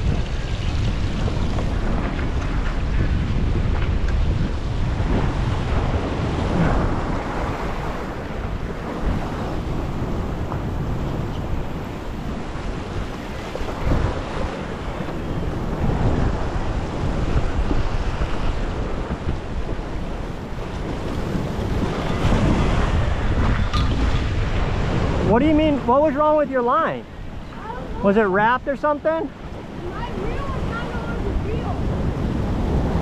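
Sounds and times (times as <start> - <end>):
waves breaking on rocks: 0.0 - 33.0
wind buffeting microphone: 0.0 - 33.0.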